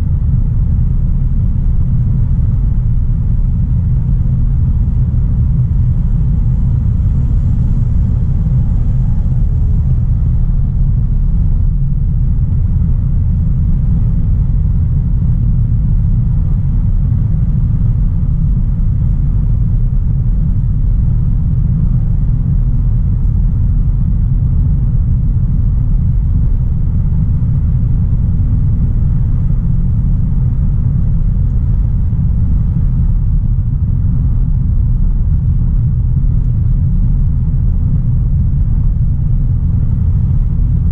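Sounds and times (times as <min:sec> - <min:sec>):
car engine rumble: 0:00.0 - 0:40.9.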